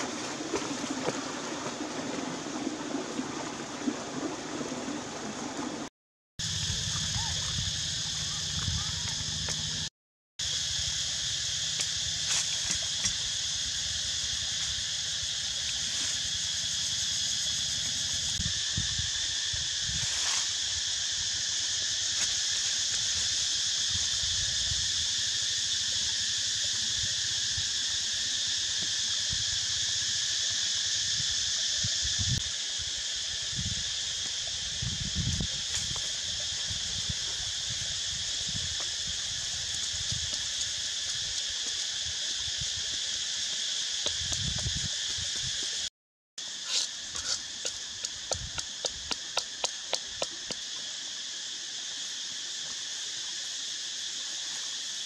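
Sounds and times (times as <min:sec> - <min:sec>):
insect chorus buzzing: 0:00.0 - 0:55.0.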